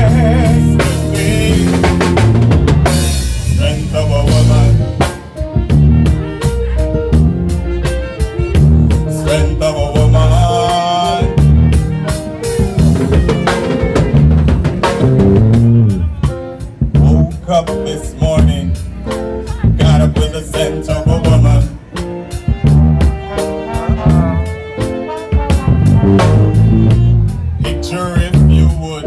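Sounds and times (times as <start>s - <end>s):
drum kit: 0.0s - 29.0s
heavy bass line: 0.0s - 29.0s
reggae band playing: 0.0s - 29.0s.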